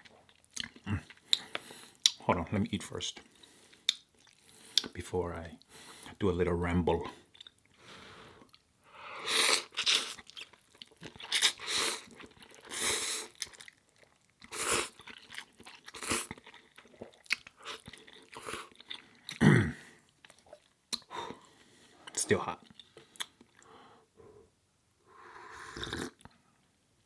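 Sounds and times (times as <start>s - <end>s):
person chewing and crunching food: 0.0s - 2.2s, 3.2s - 5.7s, 7.2s - 23.7s, 25.6s - 26.4s.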